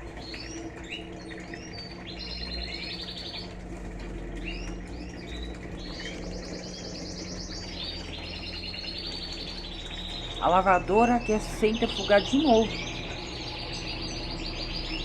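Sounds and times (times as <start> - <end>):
washing machine humming: 0.0 - 15.0
birds chirping and trilling: 0.2 - 15.0.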